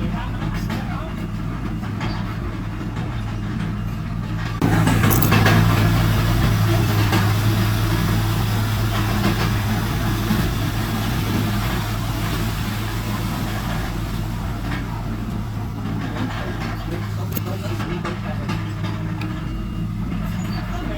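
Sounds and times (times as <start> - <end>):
heavy diesel engine droning: 0.0 - 20.9.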